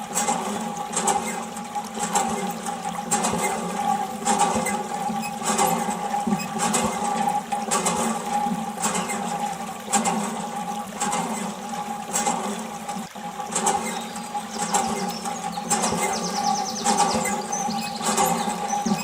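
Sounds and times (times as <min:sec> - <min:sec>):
small electric water pump running: 0:00.0 - 0:19.0
water splashing: 0:00.0 - 0:19.0.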